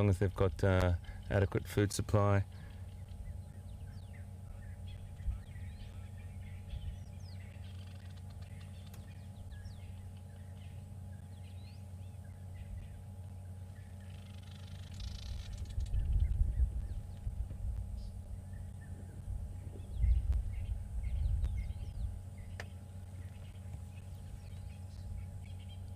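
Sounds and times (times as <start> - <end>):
buzzy sizzling bird chatter: 0.0 - 25.9
weaver birds chattering: 0.0 - 25.9.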